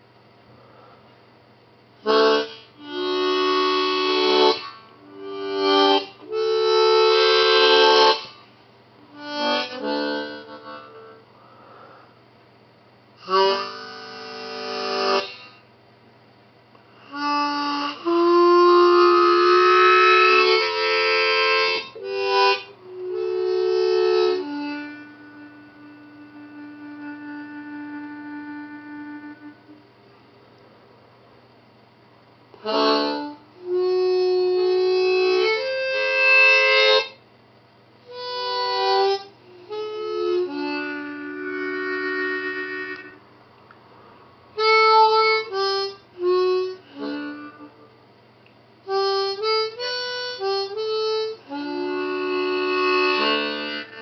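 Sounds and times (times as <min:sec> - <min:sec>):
harmonica playing: 0:02.0 - 0:12.0, 0:13.2 - 0:15.7, 0:16.9 - 0:29.9, 0:32.5 - 0:37.2, 0:38.0 - 0:43.3, 0:44.0 - 0:48.0, 0:48.8 - 0:54.0.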